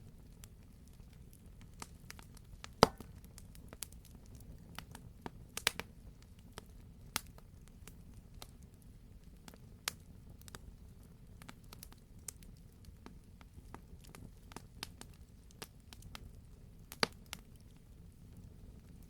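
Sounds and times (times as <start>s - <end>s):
low rumble of flame: 0.0s - 19.0s
wood fire crackling and popping: 0.1s - 19.0s.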